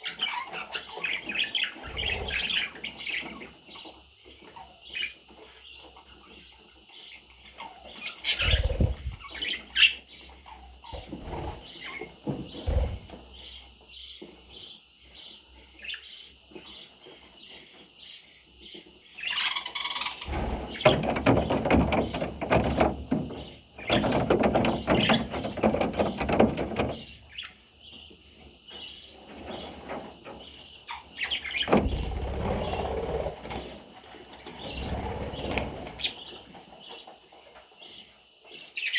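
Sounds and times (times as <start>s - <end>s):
baby budgerigars chirping: 0.0s - 37.2s, 37.8s - 38.9s.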